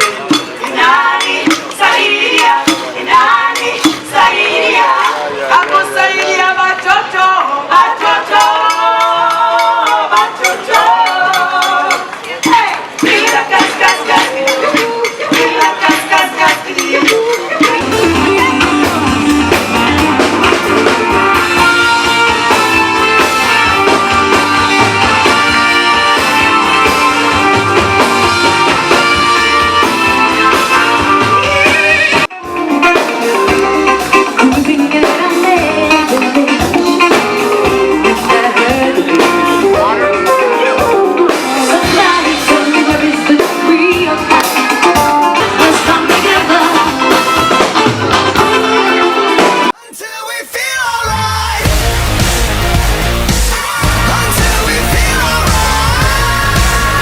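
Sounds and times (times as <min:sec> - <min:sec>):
song with singing guitar drums: 0:00.0 - 0:57.0.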